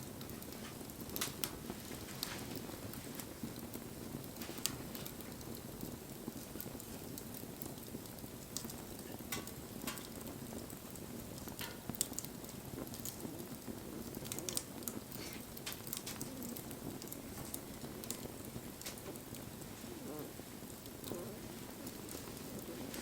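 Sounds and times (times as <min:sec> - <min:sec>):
bonfire flames rushing: 0:00.0 - 0:23.0
burning wood crackling and popping: 0:00.0 - 0:23.0.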